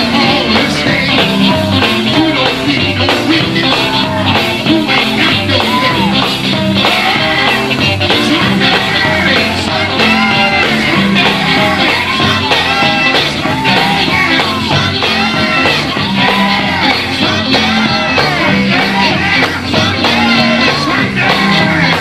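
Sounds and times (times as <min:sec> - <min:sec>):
band accompaniment: 0:00.0 - 0:22.0
gospel group singing: 0:00.0 - 0:22.0.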